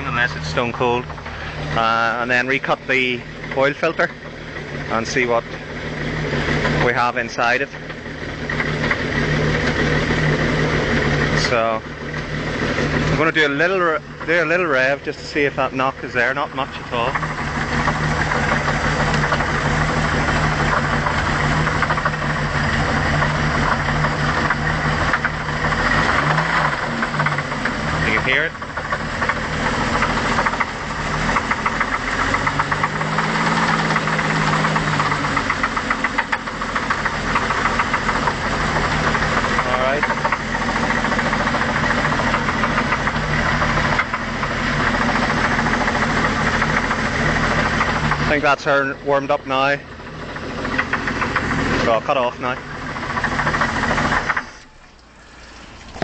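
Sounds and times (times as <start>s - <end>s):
boat engine idling with a knock: 0.0s - 56.0s.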